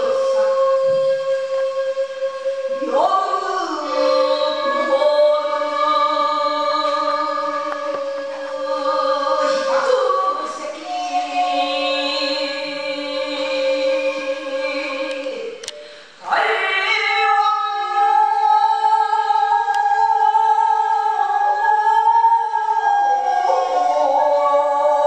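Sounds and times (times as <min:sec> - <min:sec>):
woman chanting into a microphone: 0:00.0 - 0:25.0.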